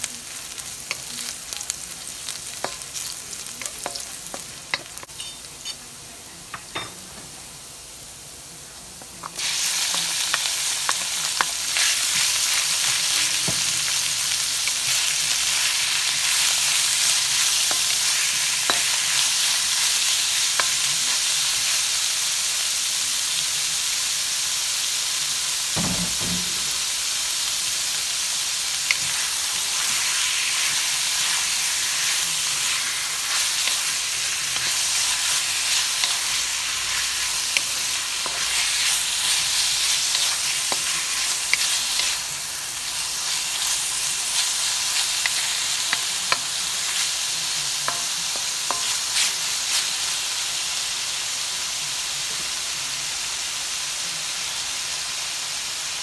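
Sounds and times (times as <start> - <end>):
meat sizzling in hot oil: 0.0 - 56.0.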